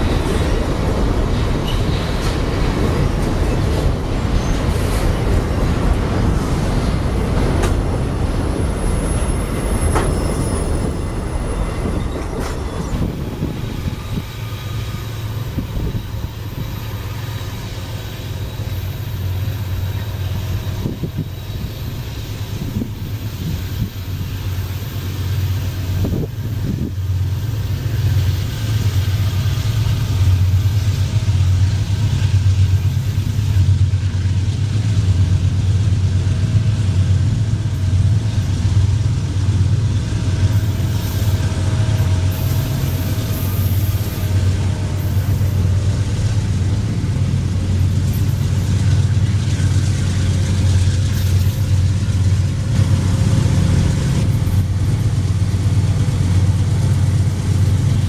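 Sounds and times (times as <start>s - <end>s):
diesel locomotive engine rumbling: 0.0s - 58.0s.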